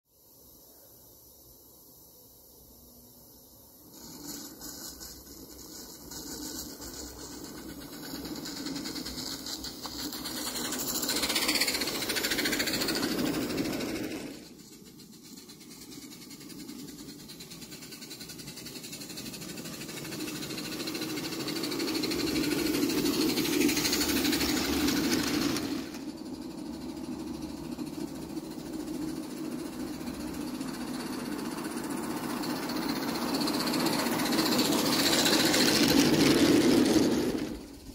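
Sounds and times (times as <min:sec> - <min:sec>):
steam locomotive running: 0:03.7 - 0:37.9.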